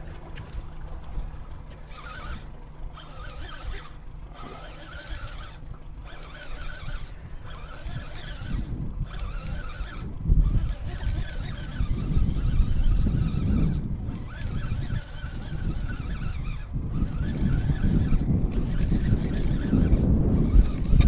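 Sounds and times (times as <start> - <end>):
fishing reel being cranked: 0.0 - 21.0
low wind: 0.0 - 21.0
water rumble: 0.0 - 21.0.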